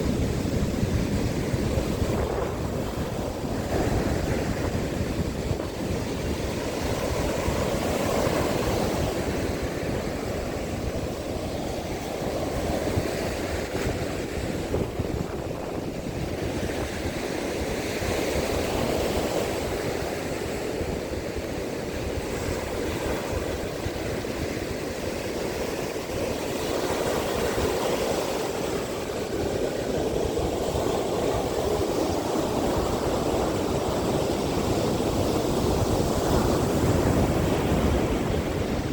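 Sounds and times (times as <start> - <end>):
surf breaking on sand beach: 0.0 - 38.9
wind buffeting microphone: 0.0 - 38.9.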